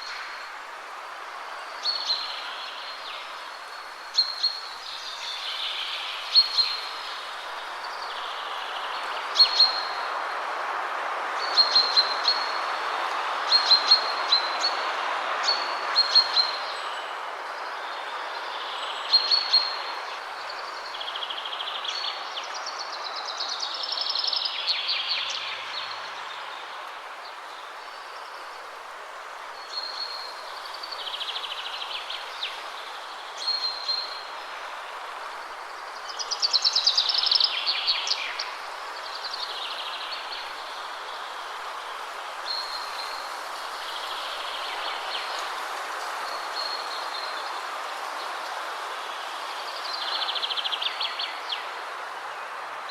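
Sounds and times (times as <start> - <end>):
wind rushing through trees: 0.0 - 52.9.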